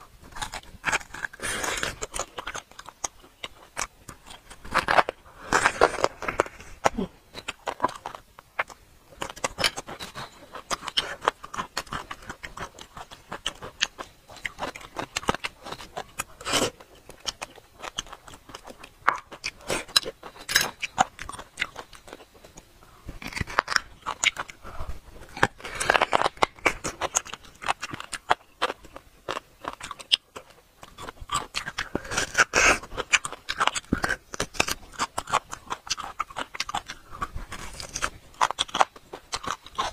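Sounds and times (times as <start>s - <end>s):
crunchy chewing of bones: 0.0s - 39.9s
utensil scraping bone: 0.3s - 39.9s.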